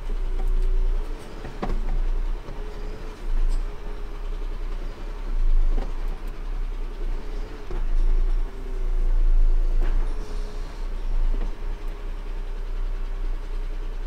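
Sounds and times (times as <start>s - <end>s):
lorry diesel engine running: 0.0s - 14.0s.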